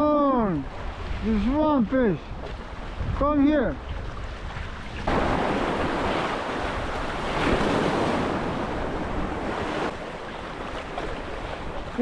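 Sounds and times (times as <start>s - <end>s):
ocean surf washing on shore: 0.0s - 12.0s
wind buffeting microphone: 0.3s - 12.0s.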